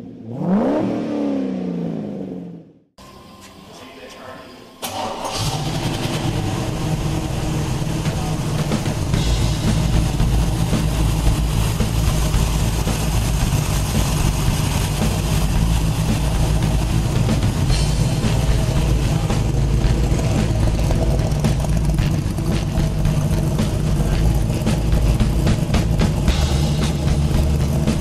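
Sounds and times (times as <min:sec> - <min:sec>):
car engine running: 0:04.8 - 0:28.0.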